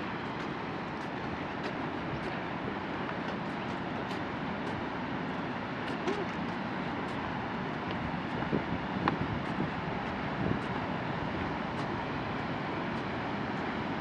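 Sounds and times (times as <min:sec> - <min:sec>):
footsteps on wooden boardwalk: 0:00.0 - 0:13.8.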